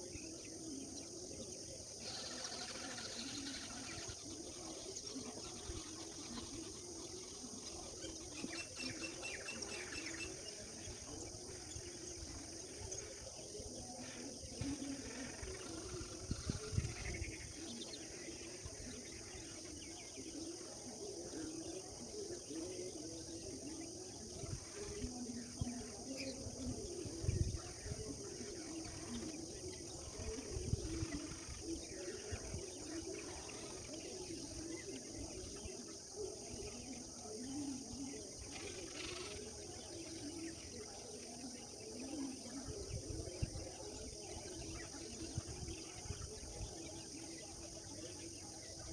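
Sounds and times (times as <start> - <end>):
birds chirping and singing: 0.0 - 48.9
steady high-pitched hiss: 0.0 - 48.9.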